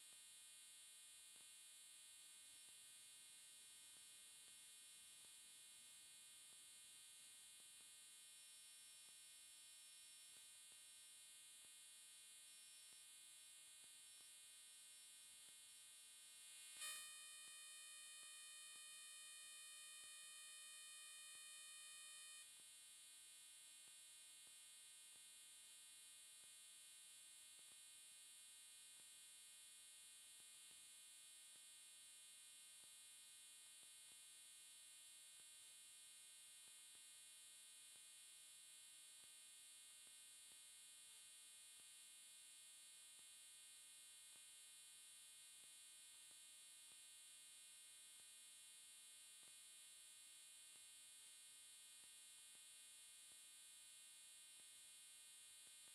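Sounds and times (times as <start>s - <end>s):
faint hum and hiss: 0.0s - 55.9s.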